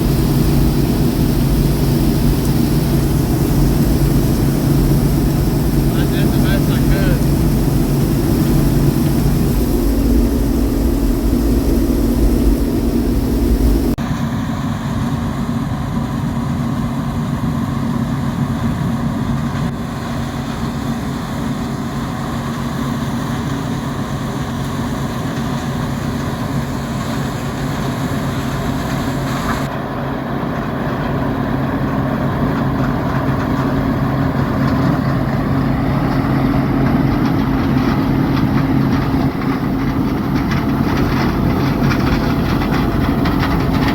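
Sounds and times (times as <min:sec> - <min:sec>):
heavy machinery engine running: 0:00.0 - 0:15.9, 0:19.6 - 0:43.9.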